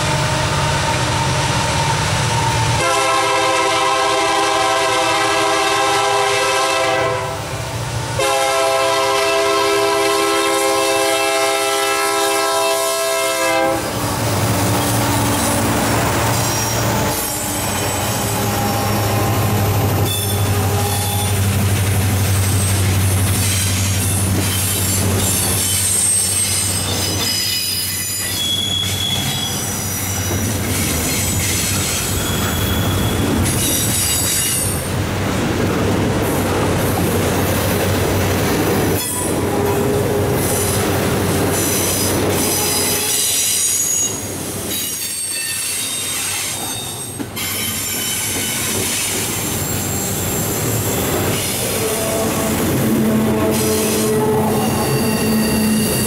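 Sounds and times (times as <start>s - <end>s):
steel wheels squealing on rail: 0.0s - 7.0s, 8.2s - 35.0s, 38.6s - 56.0s
train cars rumbling and clattering: 0.0s - 56.0s.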